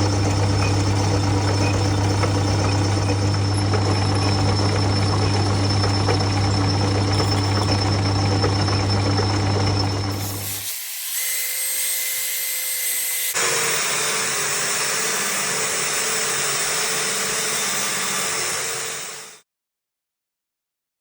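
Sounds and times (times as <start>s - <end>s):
power tool whining on steel: 0.0s - 19.4s.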